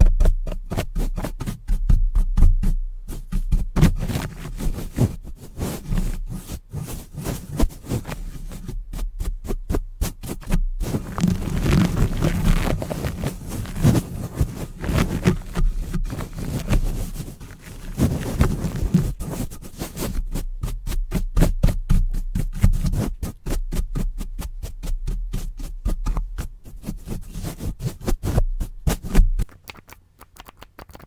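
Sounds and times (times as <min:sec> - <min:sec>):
scratching and rubbing: 0:00.0 - 0:31.0.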